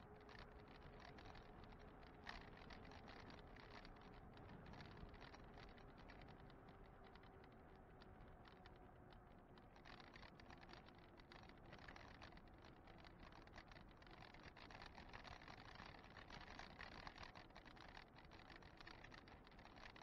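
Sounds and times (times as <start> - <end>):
bike clicking and rattling: 0.1 - 20.0.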